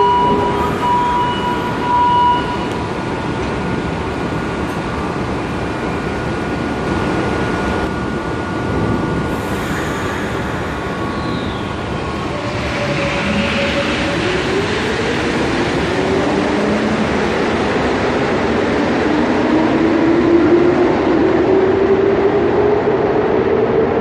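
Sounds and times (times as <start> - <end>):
metro train rumbling past: 0.0 - 24.0.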